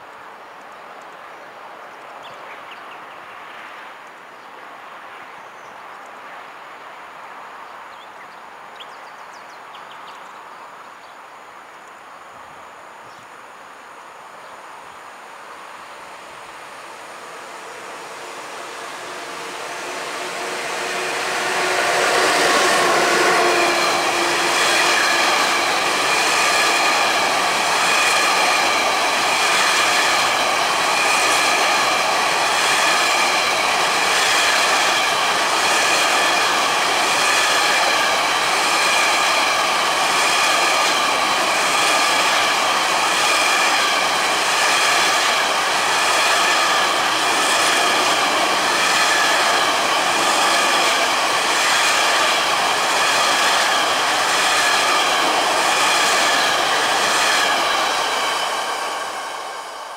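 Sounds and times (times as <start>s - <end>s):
electric locomotive passing: 8.5s - 59.9s.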